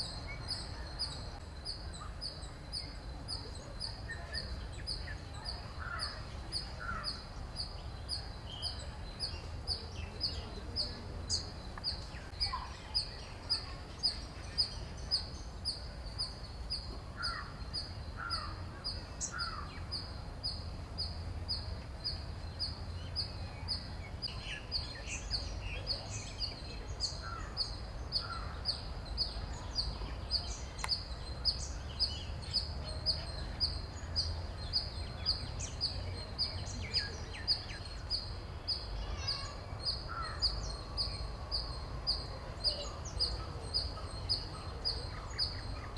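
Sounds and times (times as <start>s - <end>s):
bird calls: 0.0s - 45.9s.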